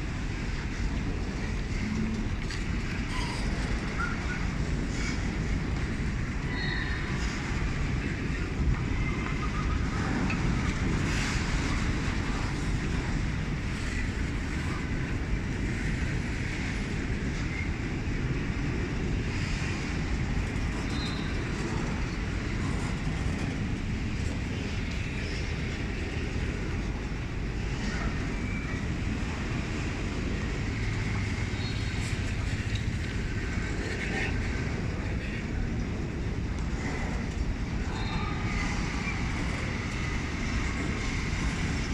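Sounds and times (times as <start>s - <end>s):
faint train clicks: 0.0s - 41.9s
freight train rumbling past: 0.0s - 41.9s.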